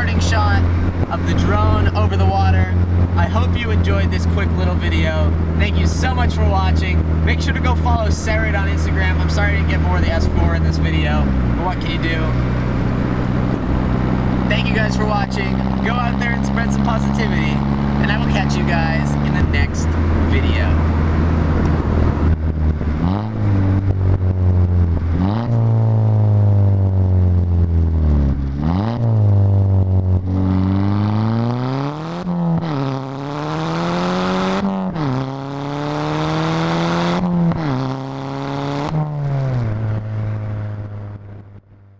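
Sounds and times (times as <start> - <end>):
car exhaust revving through gears: 0.0 - 41.8.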